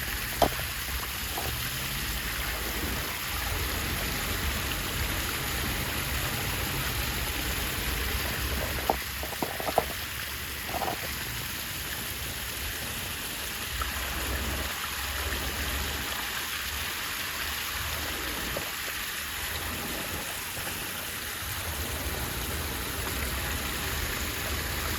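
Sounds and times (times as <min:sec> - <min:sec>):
waterfall pouring: 0:00.0 - 0:24.9.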